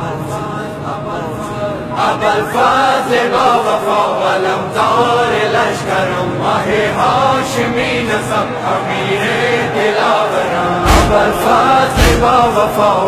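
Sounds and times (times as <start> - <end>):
voices chanting in chorus: 0.0 - 13.0.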